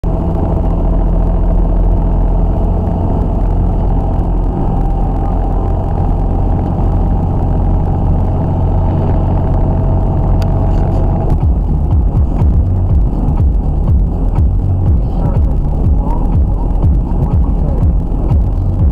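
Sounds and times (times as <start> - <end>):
road noise: 0.0 - 18.9
truck diesel engine drone: 0.0 - 18.9.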